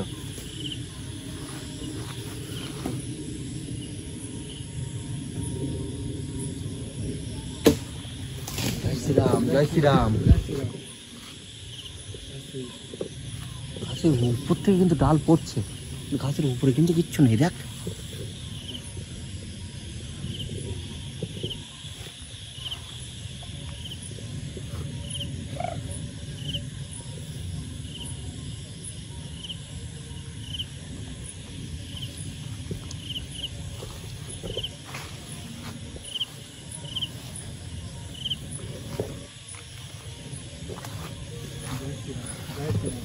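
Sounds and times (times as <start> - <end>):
insect chirping: 0.0 - 43.0.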